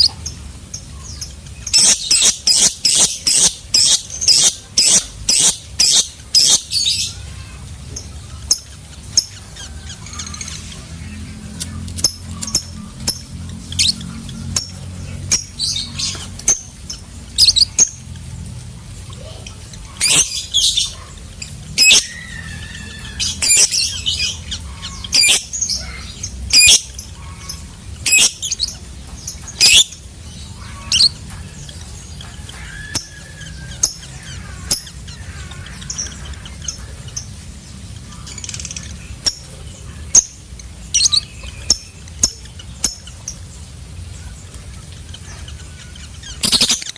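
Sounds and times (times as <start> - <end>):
lovebird chirps and squawks: 1.1 - 18.3, 19.0 - 43.4, 44.7 - 46.9.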